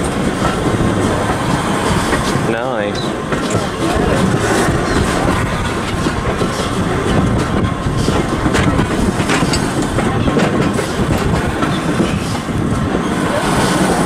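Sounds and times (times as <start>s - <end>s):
clicks over rail joints: 0.0s - 12.9s
train wheels rumbling on rails: 0.0s - 14.0s.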